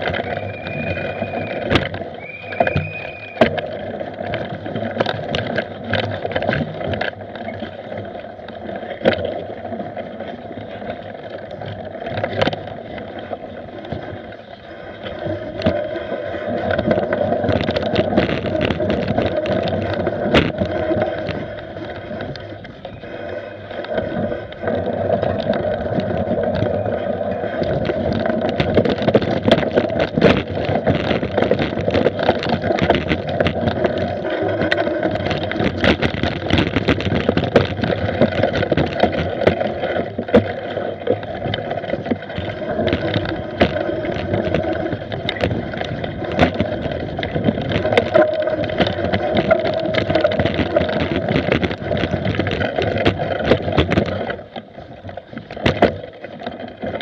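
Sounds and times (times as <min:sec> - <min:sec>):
bike rattling and clattering: 0:00.0 - 0:57.0
tyres rumbling on dirt: 0:00.0 - 0:57.0.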